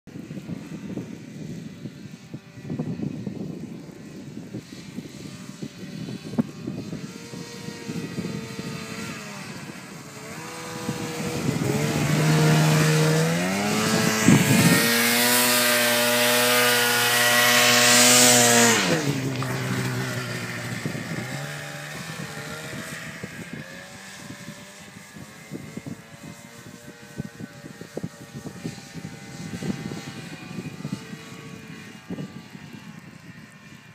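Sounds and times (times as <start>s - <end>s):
snowmobile engine revving: 4.0s - 32.8s.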